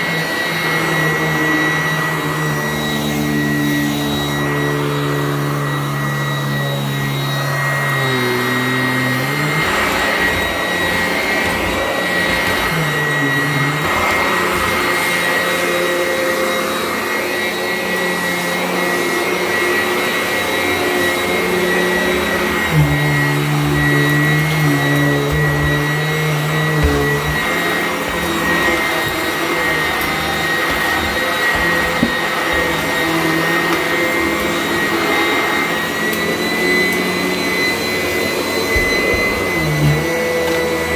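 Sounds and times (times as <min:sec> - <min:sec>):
vacuum cleaner whining: 0:00.0 - 0:40.9.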